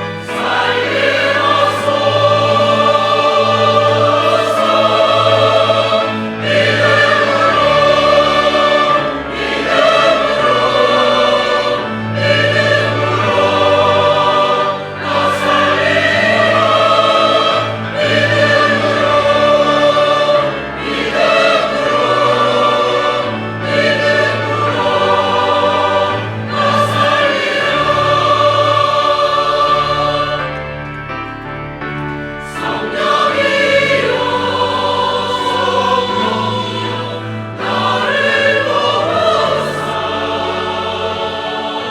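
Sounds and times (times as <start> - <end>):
church choir singing: 0.0 - 41.9
held low accompaniment notes: 0.0 - 41.9.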